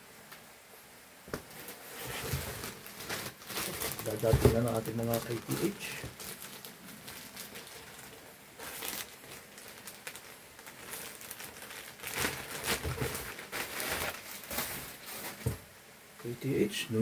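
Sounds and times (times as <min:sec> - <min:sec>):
plastic bag crinkling: 0:01.5 - 0:15.7.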